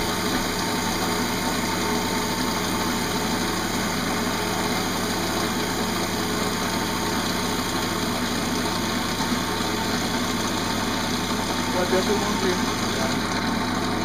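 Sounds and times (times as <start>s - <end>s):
wood lathe humming: 0.0s - 14.0s.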